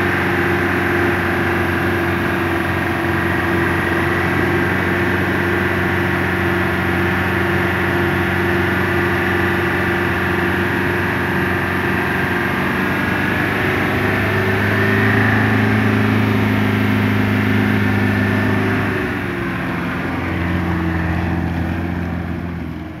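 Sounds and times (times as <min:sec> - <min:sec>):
engine pulling under load: 0:00.0 - 0:23.0.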